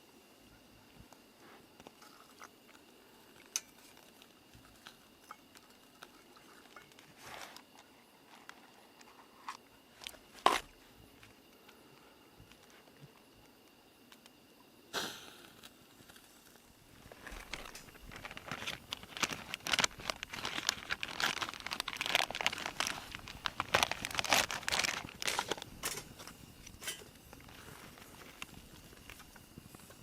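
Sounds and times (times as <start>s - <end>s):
crinkling and crumpling: 1.4s - 11.8s, 15.6s - 30.0s.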